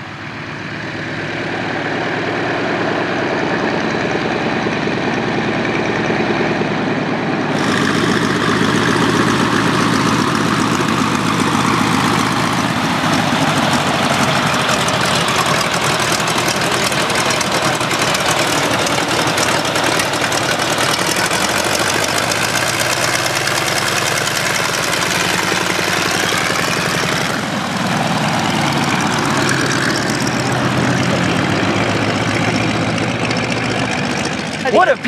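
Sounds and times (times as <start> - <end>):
radial engine idling: 3.1 - 35.0.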